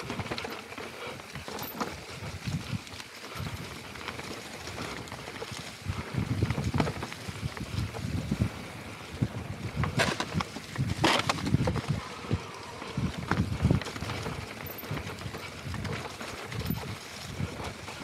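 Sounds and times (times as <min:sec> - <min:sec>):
bike rattling and knocking: 0:00.0 - 0:18.0
bike tyres rolling over stones: 0:00.0 - 0:18.0
wind buffeting microphone: 0:01.3 - 0:18.0.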